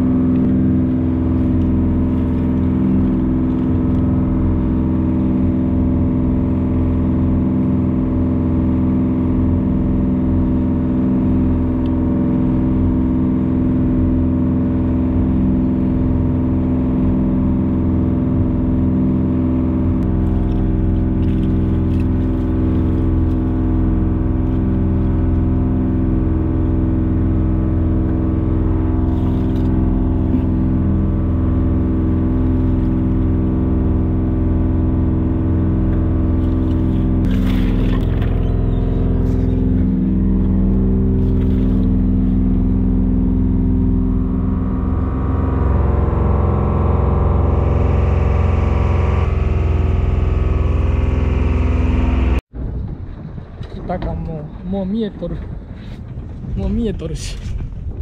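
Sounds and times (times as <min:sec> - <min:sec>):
boat engine droning: 0:00.0 - 0:56.5.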